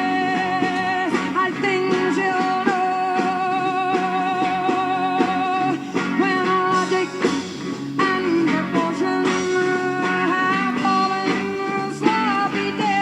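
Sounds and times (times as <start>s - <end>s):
person singing with vibrato: 0.0s - 13.0s
psychedelic rock music: 0.0s - 13.0s.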